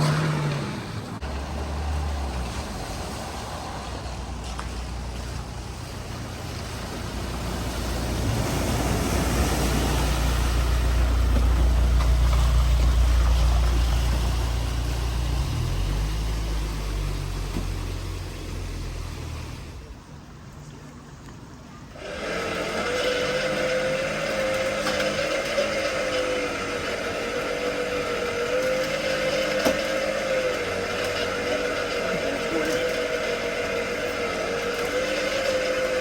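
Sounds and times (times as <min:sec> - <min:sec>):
vehicle engine running: 0:00.0 - 0:20.3, 0:22.0 - 0:36.0
water rushing and splashing: 0:00.0 - 0:36.0.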